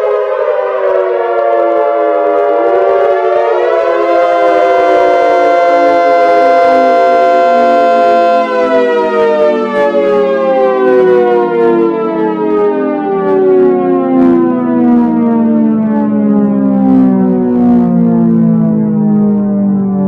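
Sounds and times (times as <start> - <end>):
air-raid siren wailing: 0.0 - 20.0.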